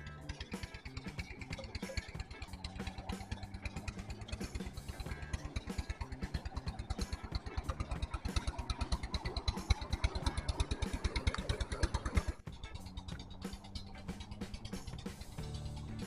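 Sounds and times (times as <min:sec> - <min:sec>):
motorcycle engine running: 0:00.0 - 0:16.0
music with held tones: 0:00.0 - 0:16.0.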